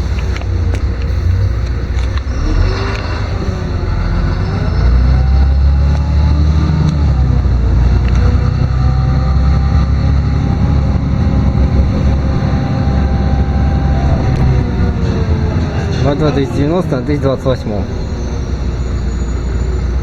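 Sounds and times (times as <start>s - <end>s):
bus engine low rumble: 0.0s - 20.0s
drivetrain whine: 0.0s - 20.0s.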